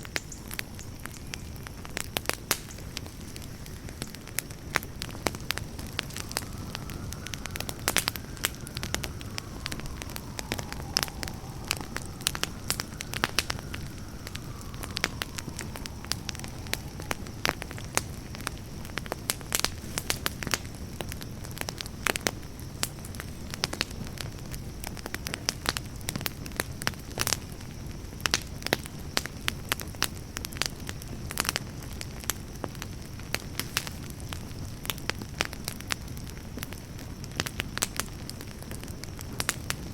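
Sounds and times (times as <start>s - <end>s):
campfire rumble: 0.0s - 39.9s
wood crackling and popping: 0.0s - 39.9s.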